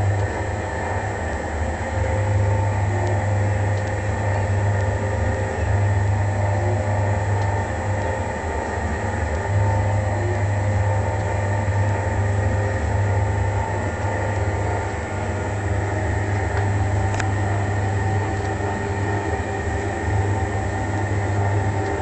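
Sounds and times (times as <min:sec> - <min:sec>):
polishing machine motor hum: 0:00.0 - 0:22.0.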